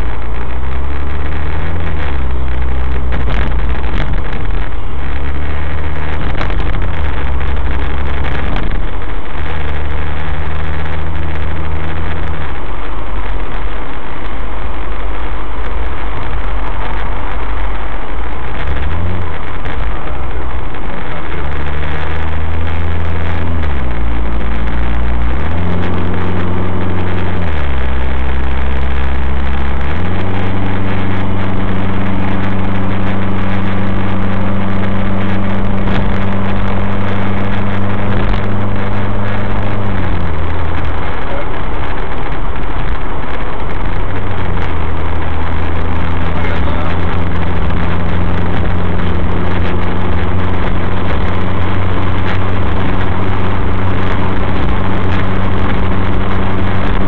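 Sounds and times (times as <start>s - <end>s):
car engine cruising: 0.0s - 57.0s
road and tyre noise: 0.0s - 57.0s.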